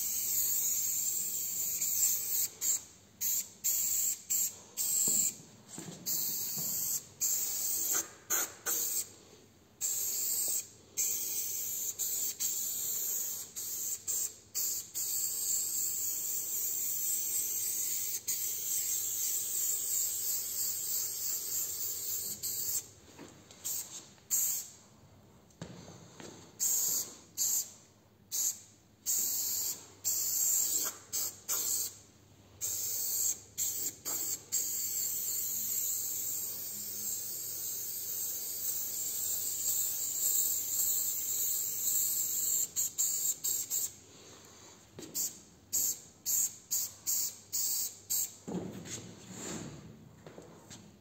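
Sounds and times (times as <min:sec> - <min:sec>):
spray paint can hissing: 0:00.0 - 0:05.4, 0:06.0 - 0:09.1, 0:09.8 - 0:22.9, 0:23.6 - 0:24.7, 0:26.6 - 0:32.0, 0:32.6 - 0:44.0, 0:45.1 - 0:48.4.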